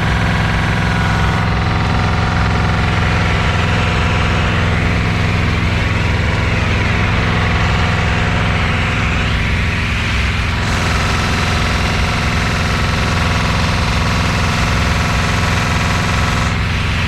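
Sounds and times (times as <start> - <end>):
pressure washer engine idling: 0.0 - 17.0.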